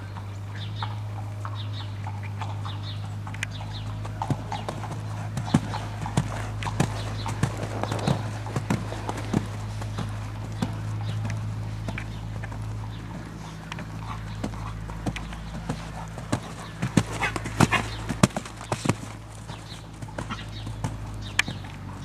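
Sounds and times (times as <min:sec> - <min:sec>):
hoofbeats on sand: 0:00.0 - 0:22.0
steady low hum: 0:00.0 - 0:22.0.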